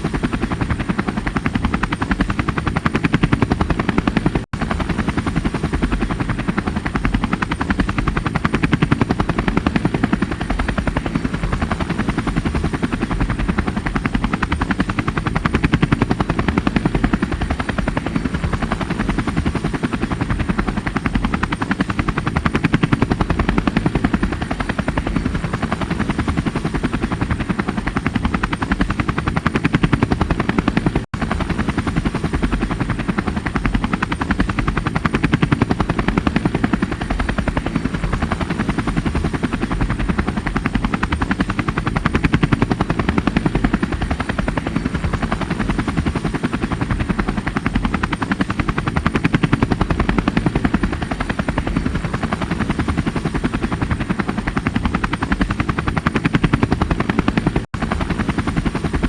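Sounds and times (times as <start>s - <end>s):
helicopter rotor chopping: 0.0s - 59.0s.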